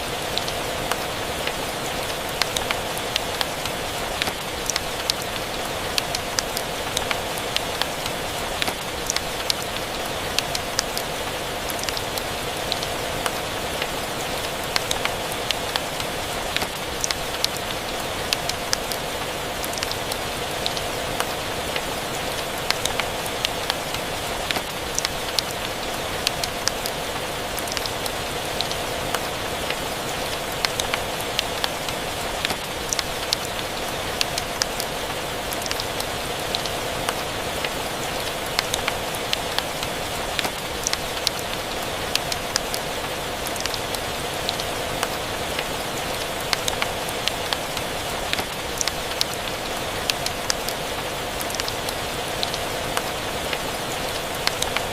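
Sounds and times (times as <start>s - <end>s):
steady rain hissing: 0.0s - 54.9s.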